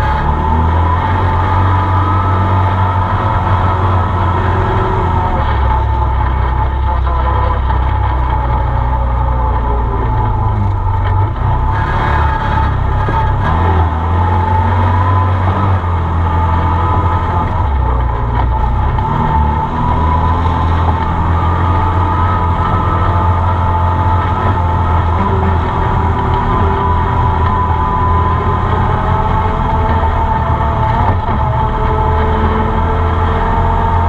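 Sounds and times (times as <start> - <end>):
off-road vehicle engine running: 0.0 - 34.0
steady high whine: 0.0 - 34.0.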